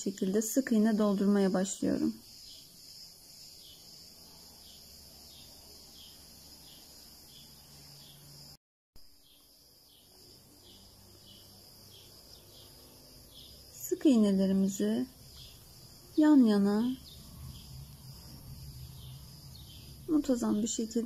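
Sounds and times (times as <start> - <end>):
soft chirps: 1.6 - 21.0.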